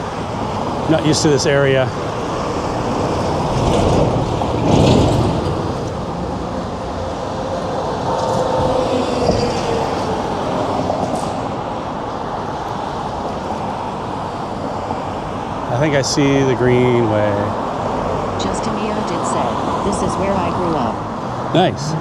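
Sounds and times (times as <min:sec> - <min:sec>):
city traffic: 0:00.0 - 0:22.0
vehicle passing: 0:00.0 - 0:22.0
wind rumble on microphone: 0:00.0 - 0:22.0.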